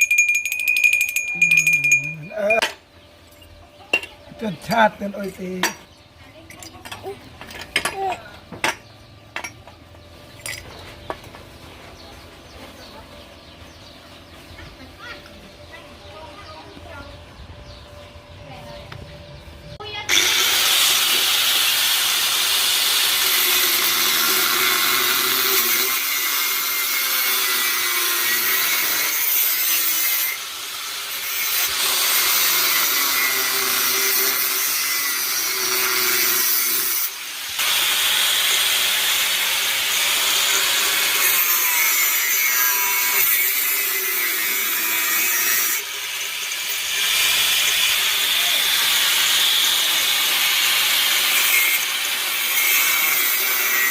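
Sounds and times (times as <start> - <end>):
grinder abrading metal: 0.0 - 9.7, 19.8 - 53.9.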